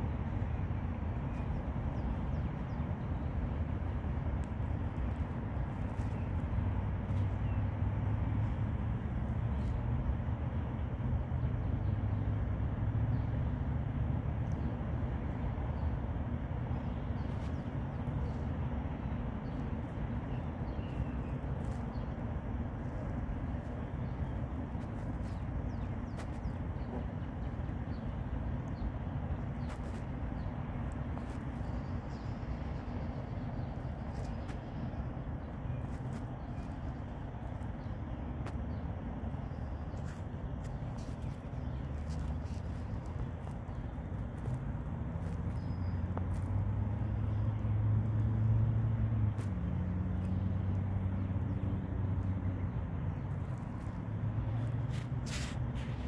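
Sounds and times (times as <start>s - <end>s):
low engine hum: 0.0s - 56.0s.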